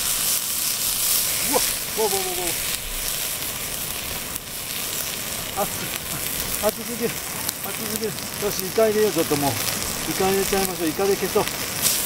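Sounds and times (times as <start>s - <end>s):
garlic sizzling in hot oil: 0.0s - 12.0s
oil popping: 0.0s - 12.0s.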